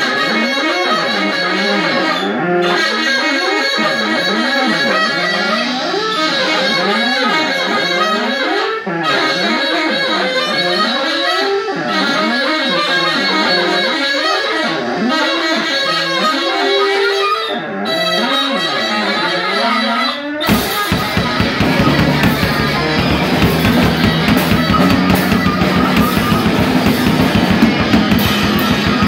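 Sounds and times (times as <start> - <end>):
electric guitar bending notes: 0.0 - 29.0.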